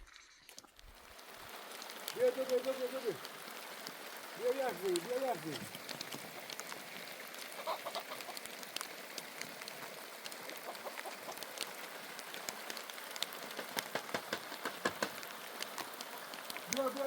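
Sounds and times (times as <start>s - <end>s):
rain falling: 0.0s - 17.0s
raindrops ticking: 0.0s - 17.0s.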